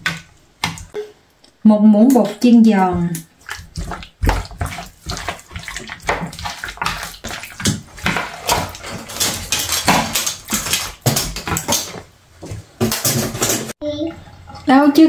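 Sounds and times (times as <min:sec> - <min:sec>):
wet mixing in a bowl: 0:01.7 - 0:15.0.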